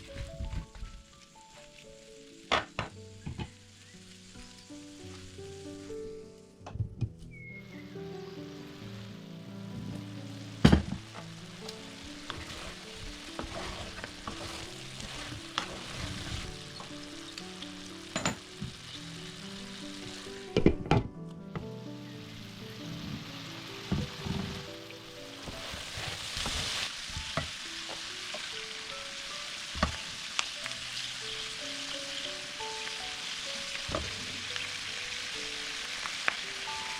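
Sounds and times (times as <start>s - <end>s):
food sizzling in a frying pan: 0.0s - 6.4s, 7.4s - 20.8s, 21.8s - 36.9s
soft background melody: 0.0s - 36.9s.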